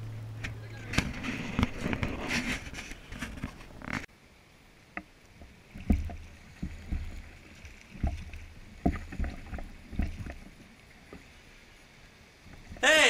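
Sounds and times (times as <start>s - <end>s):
paddle moving through water: 0.0s - 13.0s.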